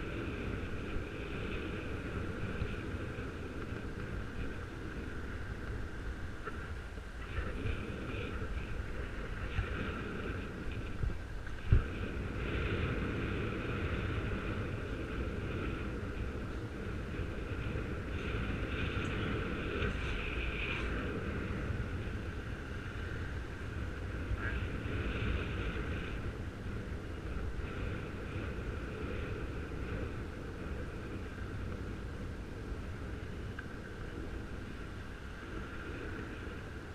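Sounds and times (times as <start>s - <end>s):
wind rumbling on microphone: 0.0s - 36.9s.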